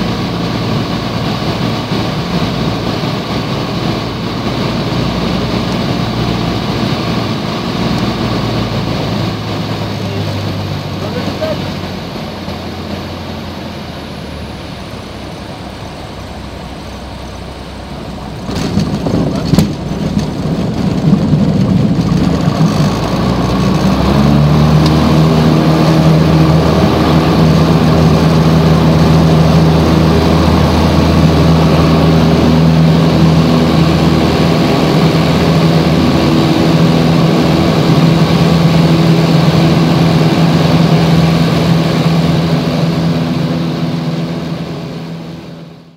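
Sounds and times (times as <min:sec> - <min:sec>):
propeller plane engine: 0:00.0 - 0:45.9.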